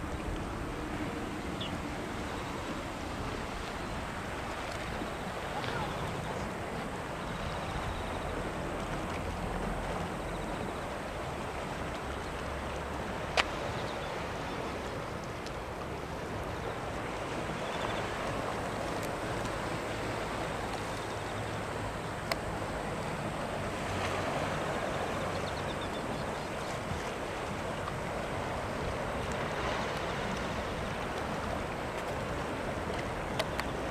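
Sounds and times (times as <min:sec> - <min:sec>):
small waves washing on rocky shore: 0:00.0 - 0:33.9
wind rumbling on microphone: 0:00.0 - 0:33.9.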